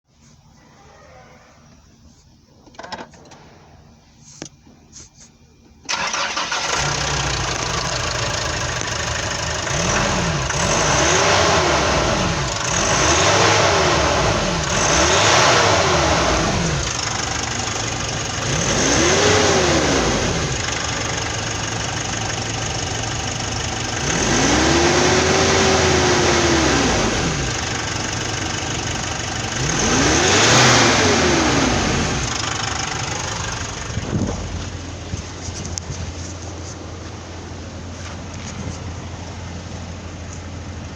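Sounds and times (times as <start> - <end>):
diesel engine starting and revving: 5.8 - 40.9.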